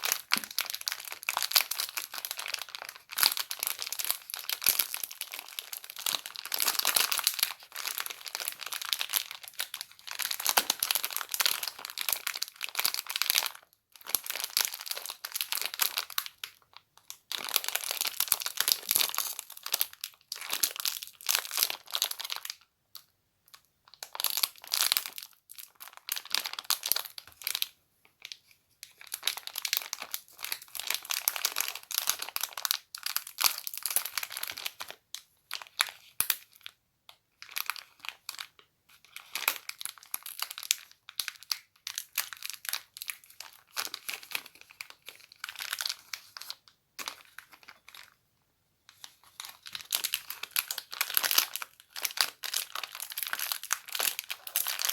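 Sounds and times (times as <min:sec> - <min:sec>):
crinkling crackly material: 0:00.0 - 0:54.9.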